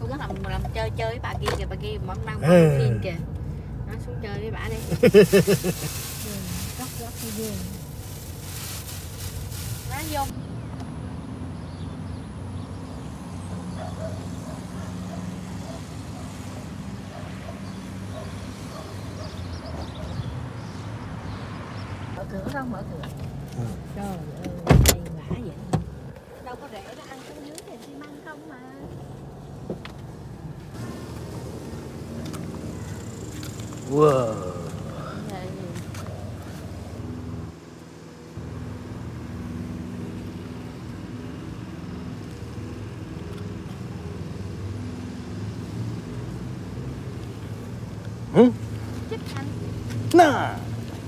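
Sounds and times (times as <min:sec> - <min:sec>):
road traffic hum: 0:00.0 - 0:51.0.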